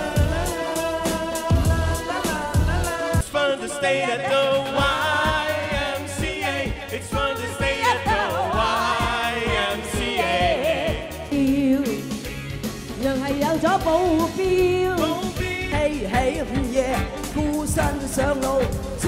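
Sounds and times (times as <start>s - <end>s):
drum kit beat: 0.0s - 3.4s, 4.5s - 19.0s
person singing: 0.0s - 12.3s, 13.0s - 19.0s.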